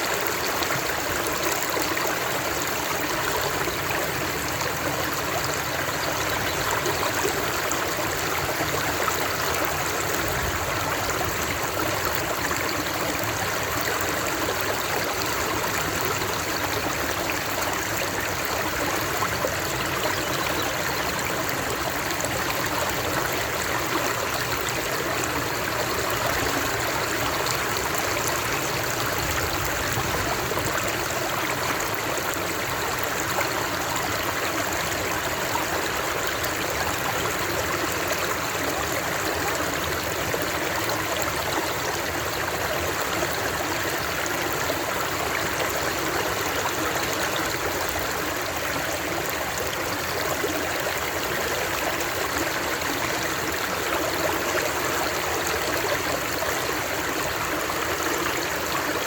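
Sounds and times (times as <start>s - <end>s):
stream rushing and trickling: 0.0s - 59.0s.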